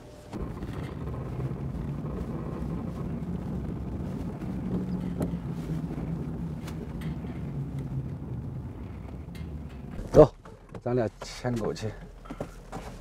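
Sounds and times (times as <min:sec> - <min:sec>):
car engine and road hum: 0:00.0 - 0:12.9.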